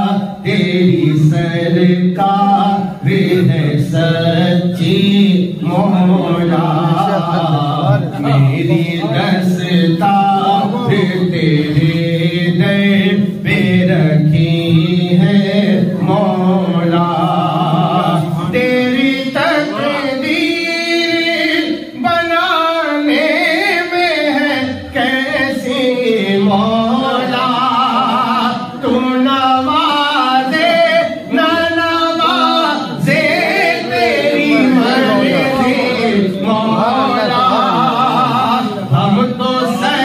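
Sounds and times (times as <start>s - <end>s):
man singing unaccompanied: 0.0s - 40.0s.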